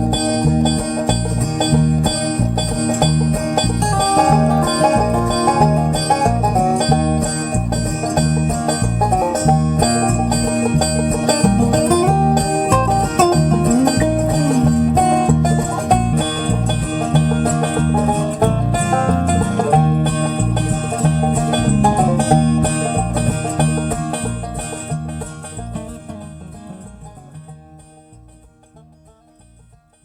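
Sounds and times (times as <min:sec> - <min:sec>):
bluegrass music with banjo: 0:00.0 - 0:30.0.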